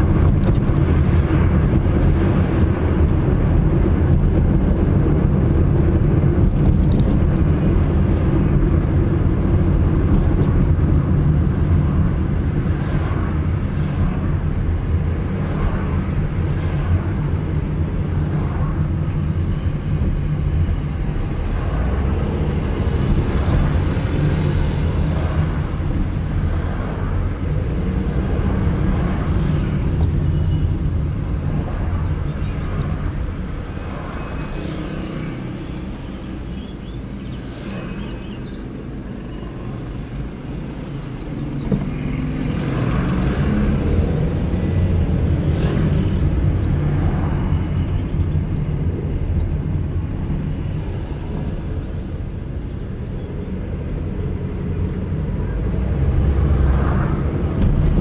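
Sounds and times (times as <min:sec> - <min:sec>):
car engine and road rumble: 0:00.0 - 0:58.0
surrounding traffic: 0:00.0 - 0:58.0.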